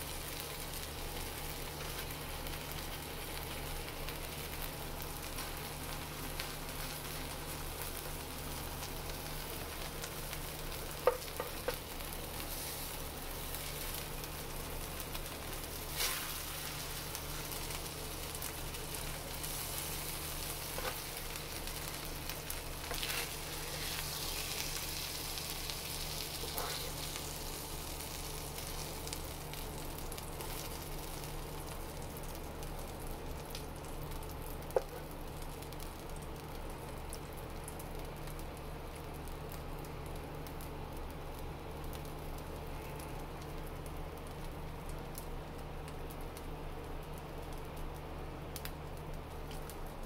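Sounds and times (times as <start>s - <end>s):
meat and cheese sizzling on griddle: 0.0s - 50.0s.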